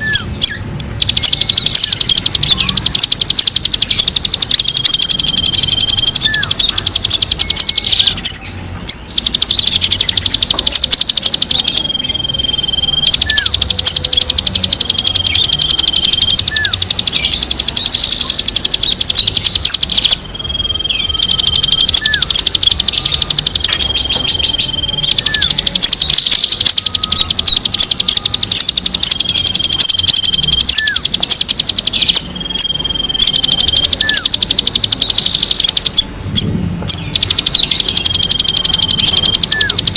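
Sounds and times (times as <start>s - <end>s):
clear bird whistles: 0.0s - 36.2s, 36.9s - 39.9s
rapid high-pitched bird chatter: 0.0s - 39.9s.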